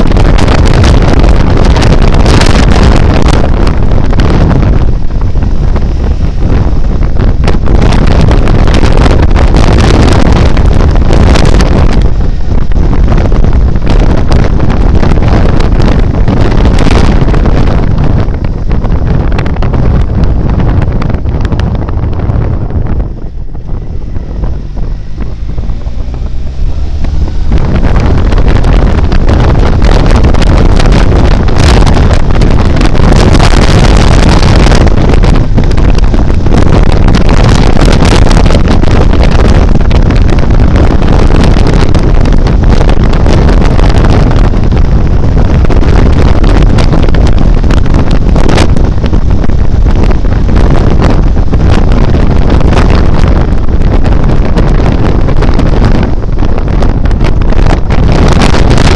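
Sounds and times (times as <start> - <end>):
motorcycle engine: 0.0 - 58.9
wind buffeting microphone: 0.0 - 58.9.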